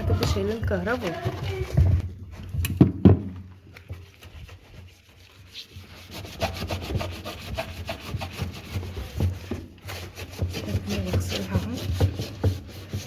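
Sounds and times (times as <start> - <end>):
scrubbing brush rubbing: 0.0 - 2.6, 3.5 - 13.0.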